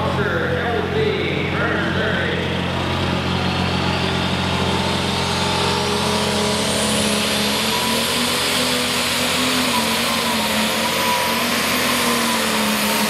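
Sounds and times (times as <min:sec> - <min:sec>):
high whine climbing: 0:00.0 - 0:13.0
tractor engine at high revs: 0:00.0 - 0:13.0.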